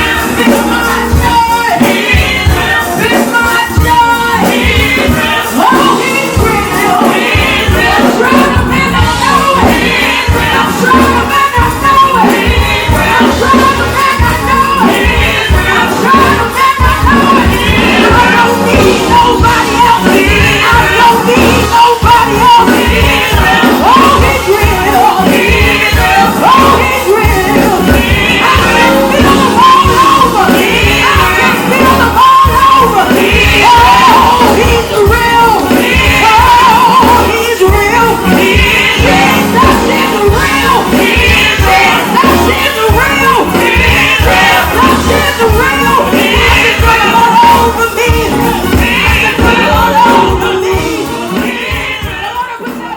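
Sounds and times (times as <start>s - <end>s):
gospel band playing: 0.0s - 52.9s
people singing: 0.0s - 52.9s.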